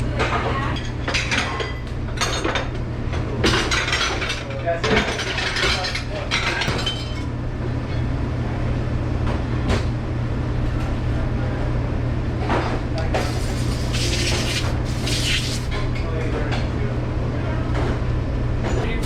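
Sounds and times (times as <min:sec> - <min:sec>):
low drone of kitchen machinery: 0:00.0 - 0:19.0.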